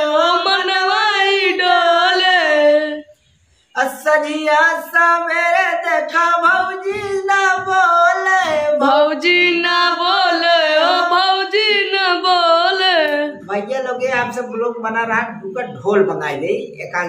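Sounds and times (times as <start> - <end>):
person singing unaccompanied: 0.0 - 15.9.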